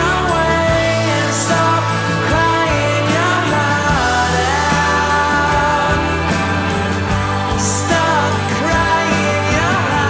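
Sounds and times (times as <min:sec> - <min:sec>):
background song: 0:00.0 - 0:10.0.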